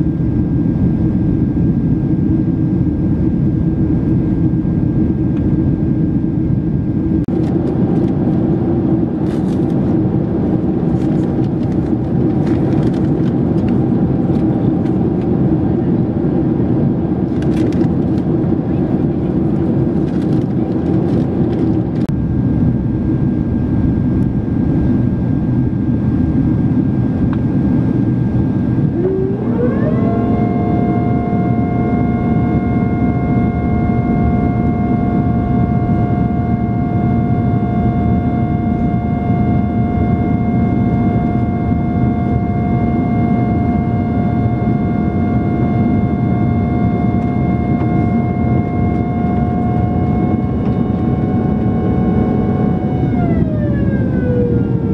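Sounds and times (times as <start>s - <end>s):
airplane cabin roar: 0.0s - 54.9s
rising whine: 0.0s - 54.9s.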